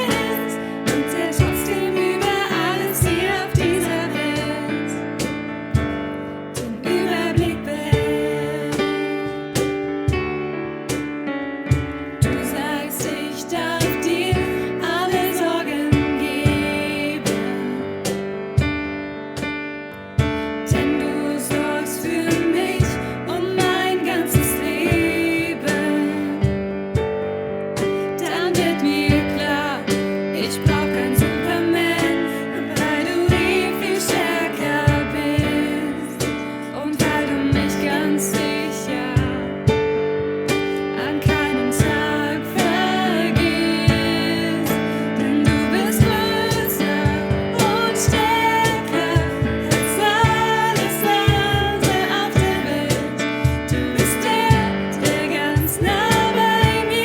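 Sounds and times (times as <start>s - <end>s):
pop song with singing: 0.0s - 10.3s, 11.7s - 18.8s, 20.2s - 27.1s, 27.7s - 57.0s.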